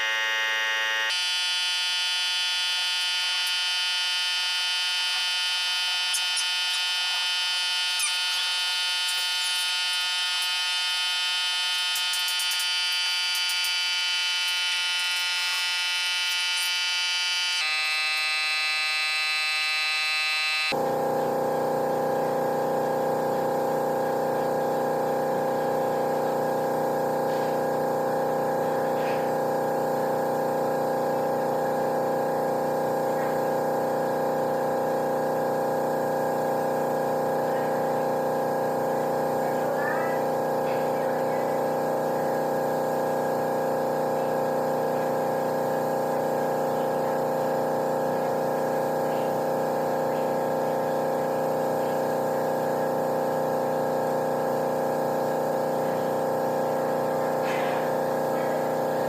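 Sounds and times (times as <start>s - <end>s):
steady machine hum: 0.0s - 59.0s.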